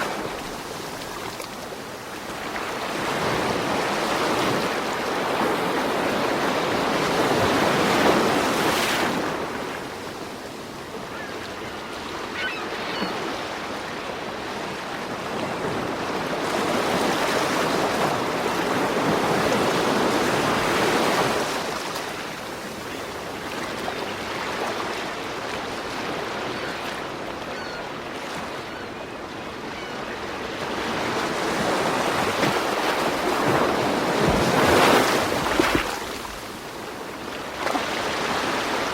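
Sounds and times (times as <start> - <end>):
waves breaking and washing in: 0.0 - 38.9.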